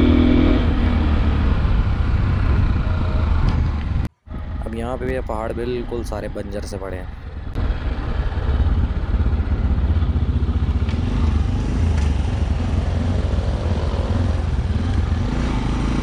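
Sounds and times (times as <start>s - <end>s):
motorcycle engine cruising: 0.0s - 5.3s, 7.2s - 16.0s
wind and road noise: 0.0s - 16.0s.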